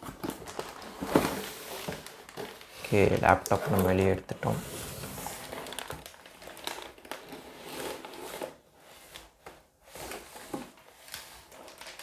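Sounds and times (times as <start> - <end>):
packaging rustling and clicking: 0.0 - 12.0.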